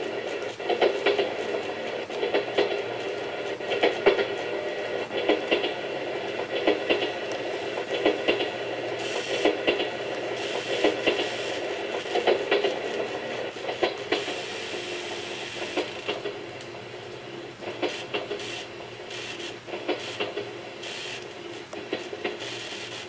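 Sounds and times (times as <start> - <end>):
steady hum: 0.0 - 23.0
train clickety-clack on rail joints: 0.0 - 23.0.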